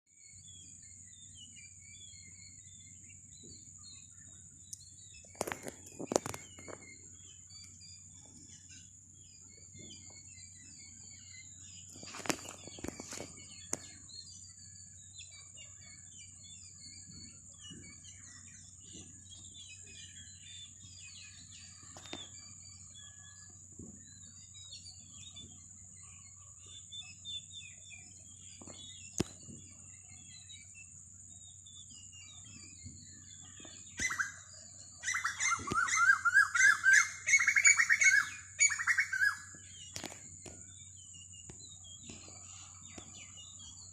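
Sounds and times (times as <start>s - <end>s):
small birds chirping: 0.1s - 43.9s.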